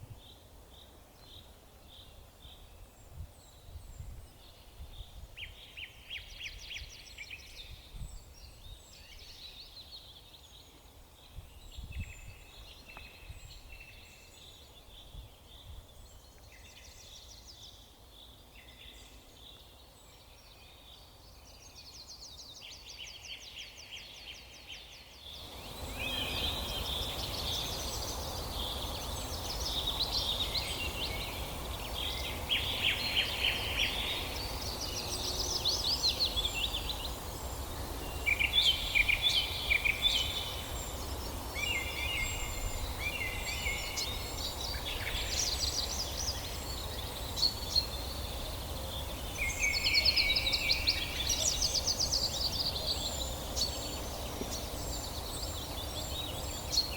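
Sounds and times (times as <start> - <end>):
songbirds chirping and trilling: 0.0 - 56.9
steady background hiss: 0.0 - 56.9.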